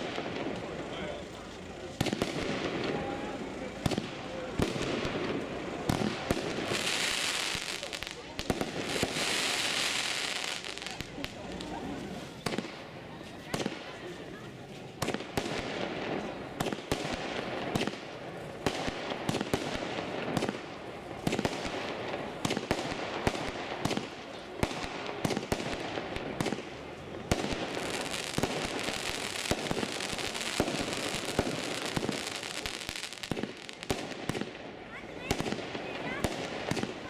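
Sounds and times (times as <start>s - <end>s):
fireworks banging: 0.0s - 37.0s
fireworks crackling: 0.0s - 37.0s.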